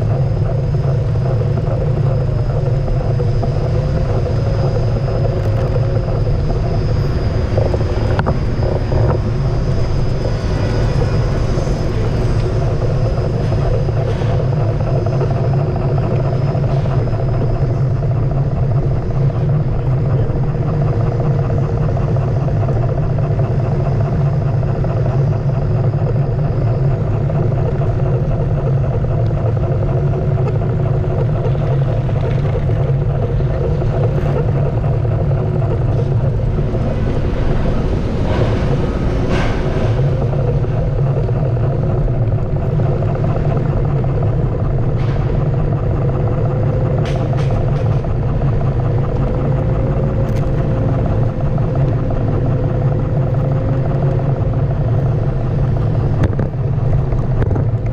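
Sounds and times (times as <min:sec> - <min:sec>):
electric motor whine: 0:00.0 - 0:57.9.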